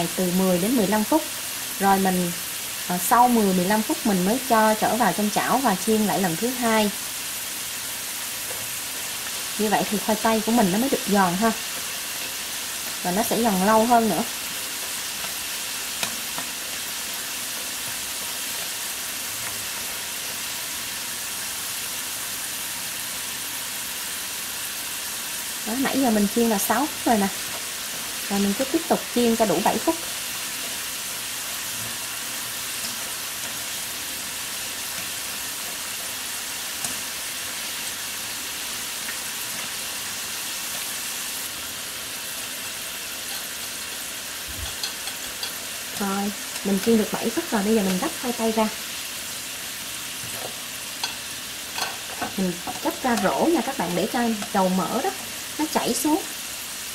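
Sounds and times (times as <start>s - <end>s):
oil sizzling and bubbling: 0.0s - 56.9s.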